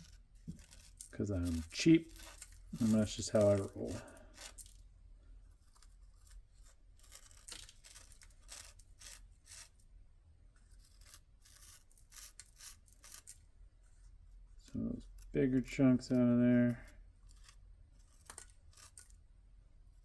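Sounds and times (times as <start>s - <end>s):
faint scraping and crinkling: 0.0s - 9.9s, 10.5s - 20.0s.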